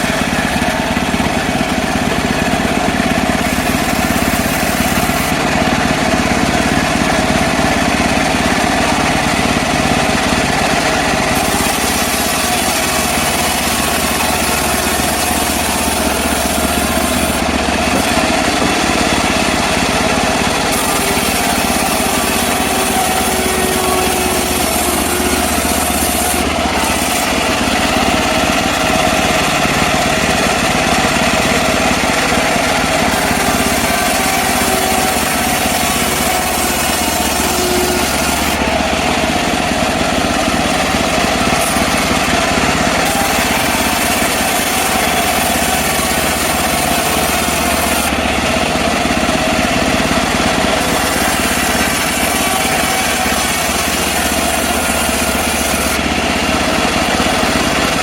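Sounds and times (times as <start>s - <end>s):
bandsaw mill engine and blade: 0.0s - 58.0s.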